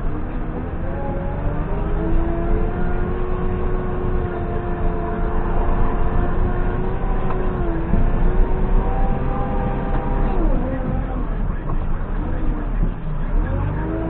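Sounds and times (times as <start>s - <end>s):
backhoe diesel engine whining: 0.0s - 14.0s.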